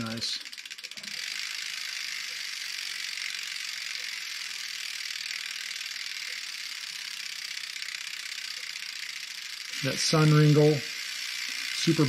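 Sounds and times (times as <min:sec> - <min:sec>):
bicycle freehub ratchet buzz: 0:00.0 - 0:12.0.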